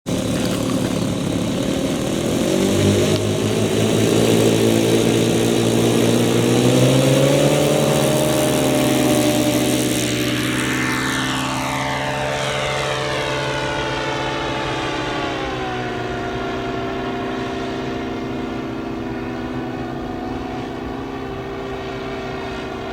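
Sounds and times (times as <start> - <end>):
model plane propeller motors: 0.1 - 22.9.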